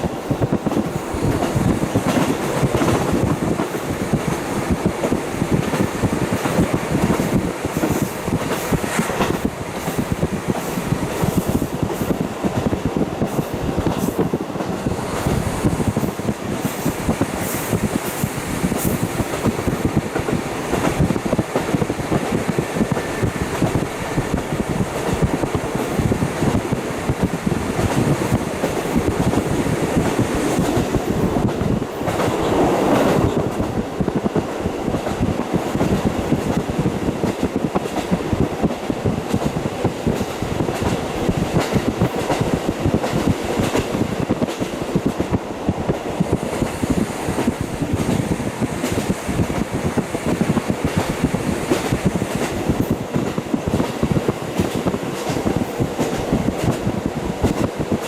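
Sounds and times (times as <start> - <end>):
train wheel clicks: 0.0 - 58.0
train wheel rail and wind rush: 0.0 - 58.0.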